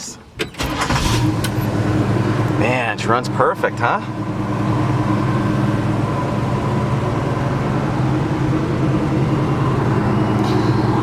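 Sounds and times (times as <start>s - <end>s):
truck engine idling: 0.6s - 11.0s.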